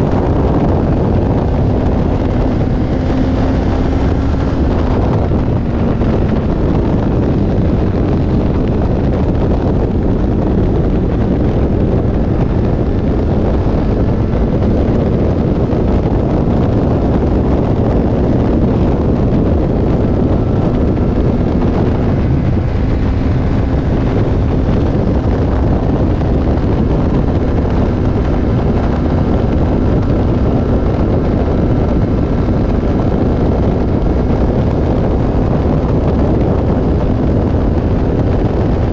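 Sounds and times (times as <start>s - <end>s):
motorcycle engine drone: 0.0s - 38.9s
wind rushing over microphone: 0.0s - 38.9s.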